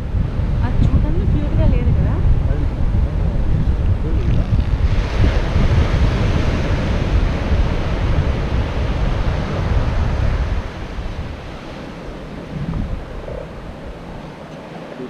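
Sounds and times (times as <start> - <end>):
wind buffeting microphone: 0.0 - 15.0
ocean surf hissing: 1.3 - 15.0.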